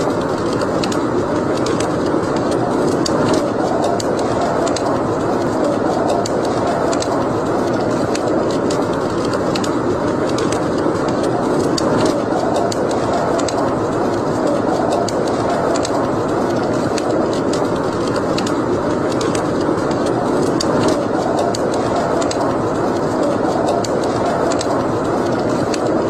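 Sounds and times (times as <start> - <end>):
steady rushing noise: 0.0 - 26.0
wood fire crackling and popping: 0.0 - 26.0.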